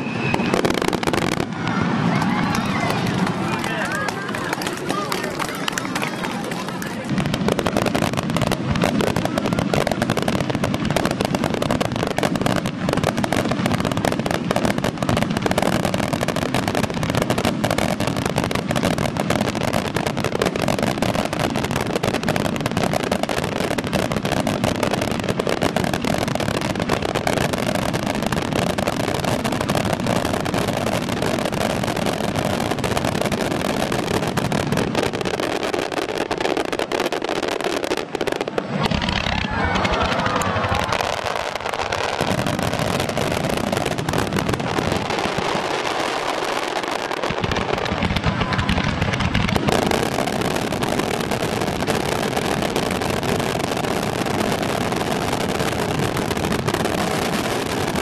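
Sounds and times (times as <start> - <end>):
fireworks exploding: 0.0 - 58.0.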